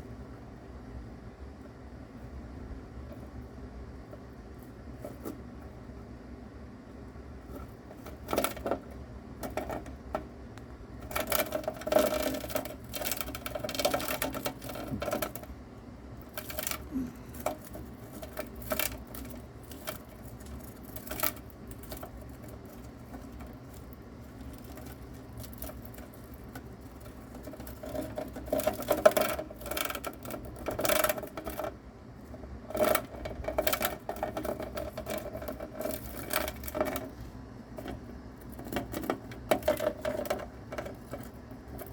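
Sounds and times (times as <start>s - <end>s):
mouse eating insect: 1.7s - 41.9s
clicking and scratching: 4.1s - 5.8s, 7.4s - 41.9s.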